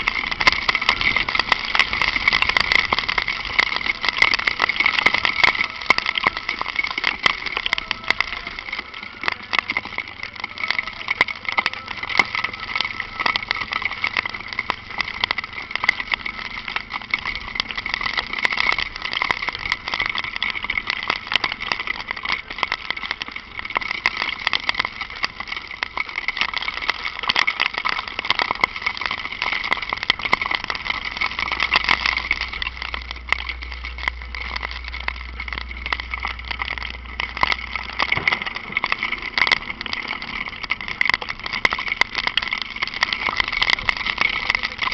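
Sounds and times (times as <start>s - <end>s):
rain hiss and crackling ticks: 0.0s - 44.9s.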